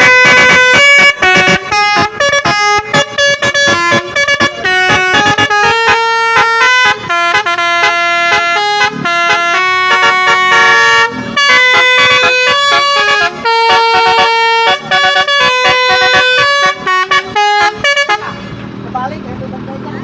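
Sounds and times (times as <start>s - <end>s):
multi-tone bus horn melody: 0.0s - 18.7s.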